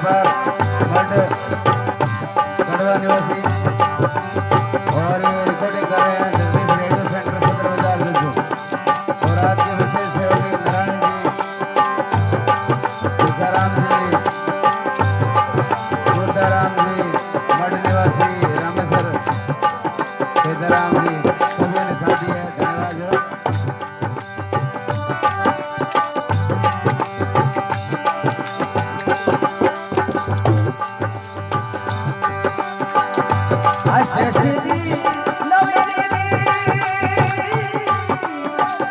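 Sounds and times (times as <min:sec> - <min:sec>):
hand drum rhythm: 0:00.0 - 0:38.9.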